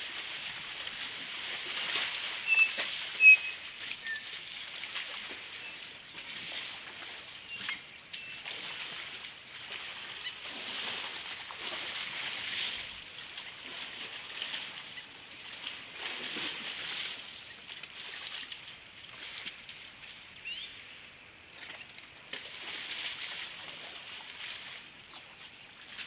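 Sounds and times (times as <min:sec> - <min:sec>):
elephants sloshing in mud: 0:00.0 - 0:07.8, 0:08.4 - 0:19.7, 0:21.6 - 0:26.0.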